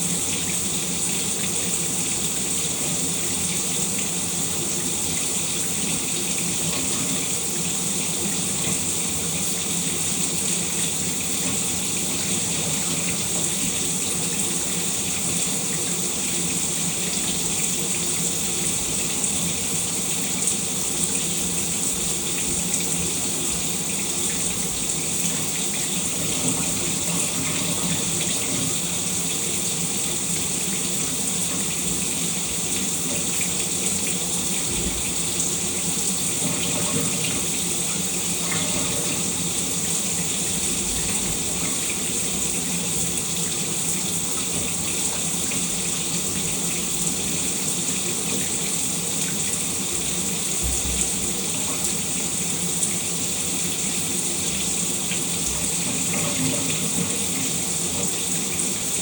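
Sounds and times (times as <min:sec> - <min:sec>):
shower spray running: 0:00.0 - 0:59.0.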